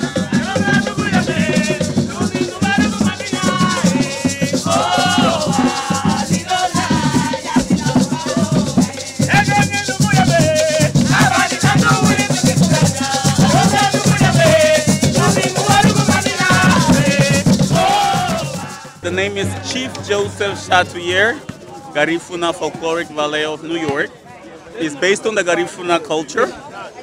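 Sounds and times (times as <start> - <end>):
people singing folk song: 0.0 - 22.0
maracas shaking: 0.0 - 23.4.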